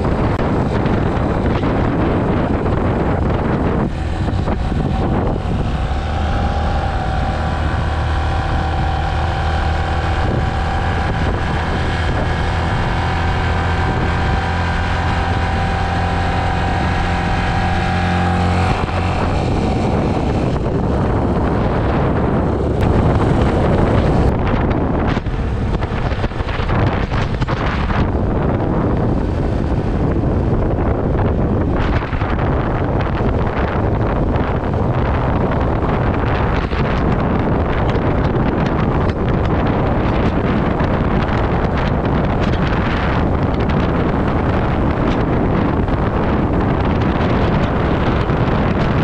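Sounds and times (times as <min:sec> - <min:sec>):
motorcycle engine running: 0:00.0 - 0:49.0
road rush: 0:00.0 - 0:49.0
wind noise on microphone: 0:00.0 - 0:49.0.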